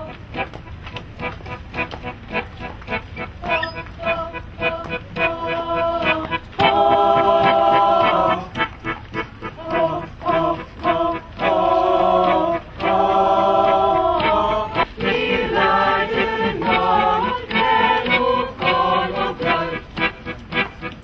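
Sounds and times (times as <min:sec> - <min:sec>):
mixed voices singing in chorus: 0:03.4 - 0:20.4.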